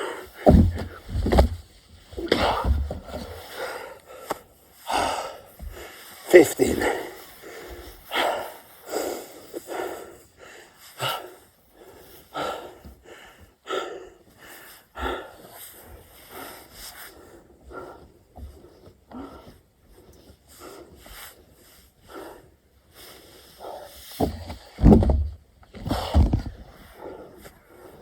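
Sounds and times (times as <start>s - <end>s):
man breathing heavily: 0.0s - 1.5s, 2.2s - 28.0s.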